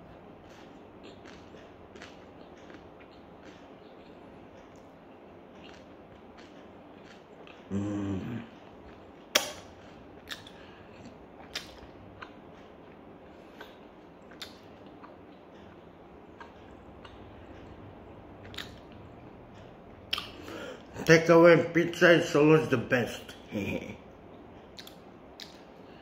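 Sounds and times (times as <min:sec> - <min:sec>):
mouth chewing clicks and smacks: 0:00.4 - 0:07.7, 0:08.6 - 0:20.9, 0:24.3 - 0:25.8.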